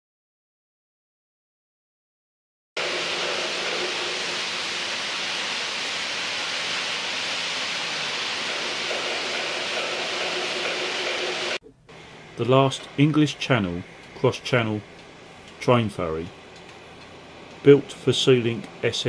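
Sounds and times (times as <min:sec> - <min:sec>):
steady rushing hiss: 0:02.8 - 0:19.0.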